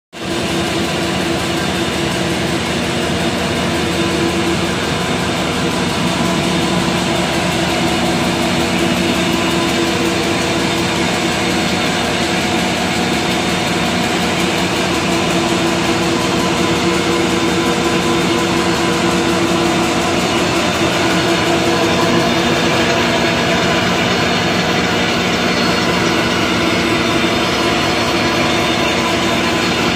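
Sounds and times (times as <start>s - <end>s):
printing machine running: 0.2s - 29.9s.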